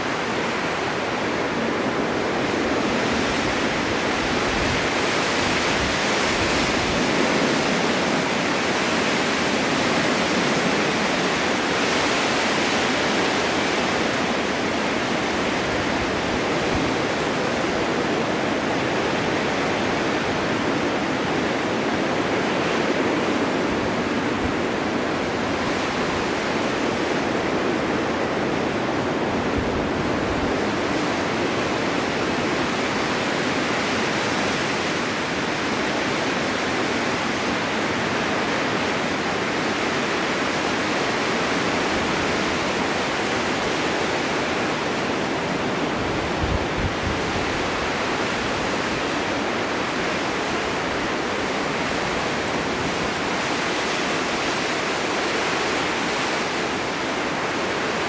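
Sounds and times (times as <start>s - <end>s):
low wind buffet: 0.0s - 58.0s
snowstorm wind blowing: 0.0s - 58.0s.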